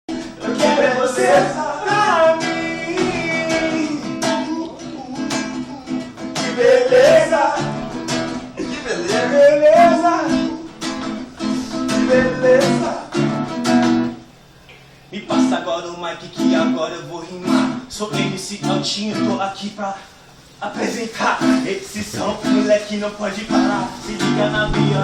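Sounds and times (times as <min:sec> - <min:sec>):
person singing wordless melody: 0:00.1 - 0:10.8, 0:11.4 - 0:13.4, 0:15.1 - 0:25.0
acoustic guitar strumming: 0:00.1 - 0:25.0.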